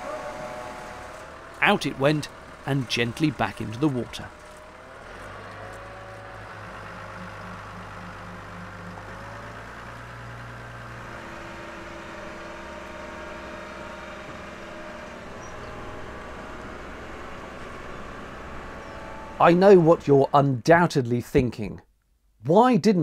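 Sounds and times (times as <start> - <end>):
trailer engine running under load: 0.0 - 20.8.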